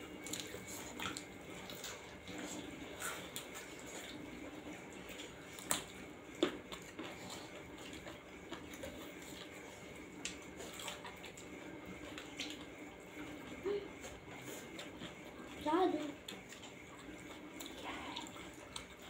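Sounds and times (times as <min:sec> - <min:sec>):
chewing and lip smacks: 0:00.1 - 0:19.0.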